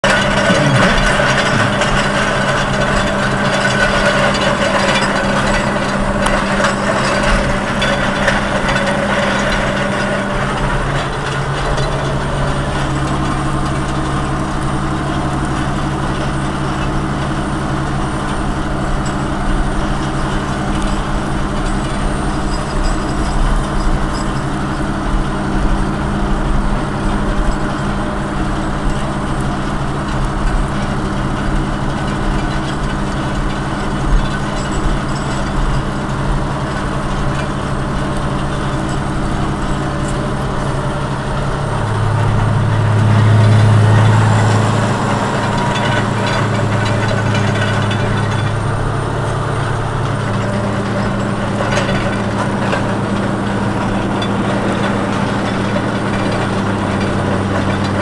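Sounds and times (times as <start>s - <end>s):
diesel tractor engine under load: 0.0s - 58.0s
metallic rattling of harrow: 0.0s - 58.0s.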